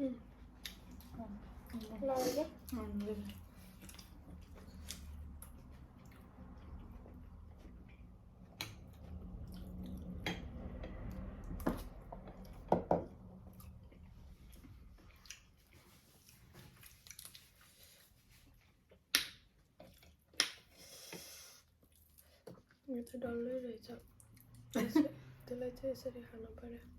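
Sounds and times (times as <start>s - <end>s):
chewing and smacking: 0.4s - 2.0s, 2.6s - 23.2s, 24.0s - 24.8s.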